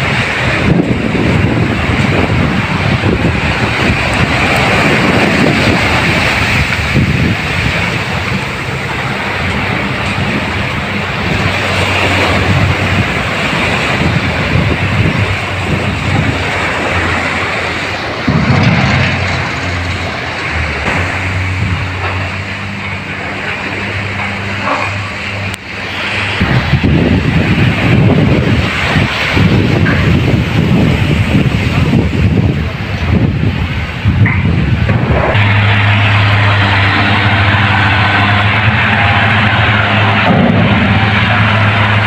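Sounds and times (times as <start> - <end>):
small waves washing on sand: 0.0 - 34.0
wind buffeting microphone: 0.0 - 42.0.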